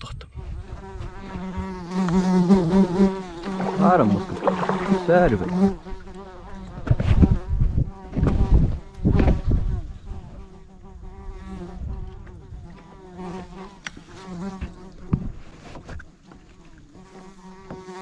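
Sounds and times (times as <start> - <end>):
flying insect buzzing: 0.4 - 18.0.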